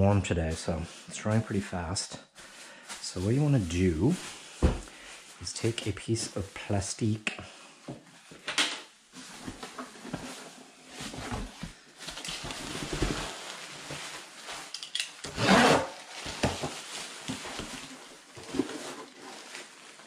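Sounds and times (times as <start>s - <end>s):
plastic sheeting rustling: 0.0s - 7.2s, 9.0s - 20.0s.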